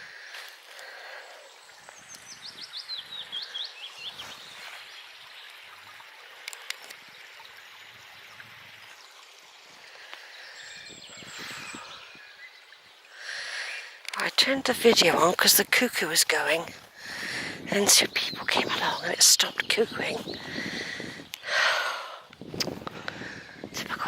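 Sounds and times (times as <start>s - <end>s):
outdoor hiss: 0.0s - 24.0s
songbird chirping: 0.0s - 24.0s.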